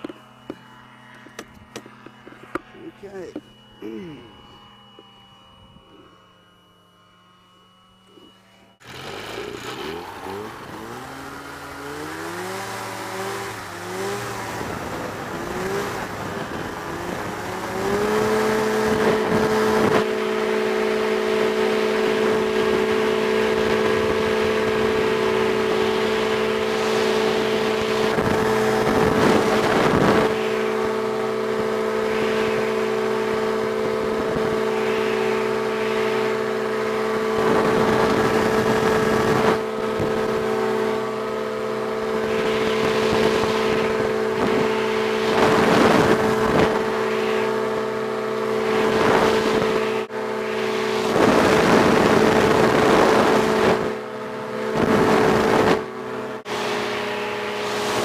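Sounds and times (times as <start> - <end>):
engine and propeller drone: 0.0 - 58.0.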